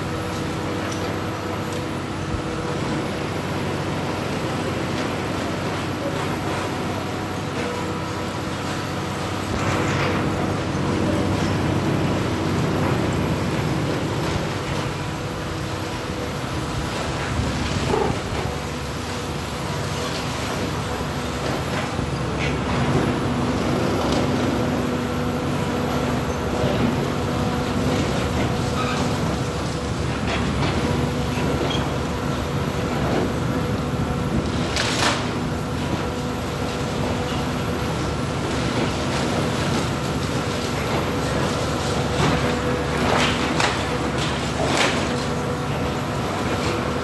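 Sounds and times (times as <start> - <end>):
excavator engine and hydraulics humming: 0.0 - 47.0.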